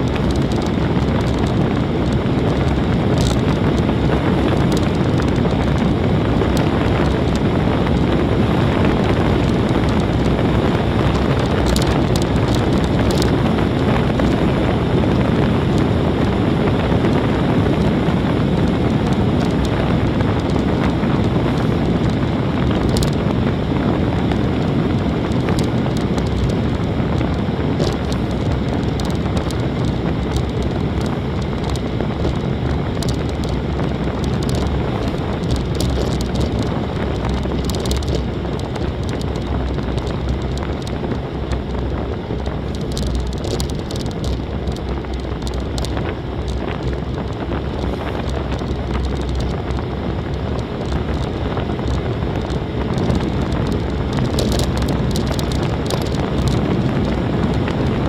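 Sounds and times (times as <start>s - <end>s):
bike clicks and knocks: 0.0s - 8.1s, 11.0s - 13.5s, 18.7s - 23.2s, 24.2s - 58.0s
tyres roaring on coarse road: 0.0s - 58.0s
wind rushing over microphone: 0.0s - 58.0s.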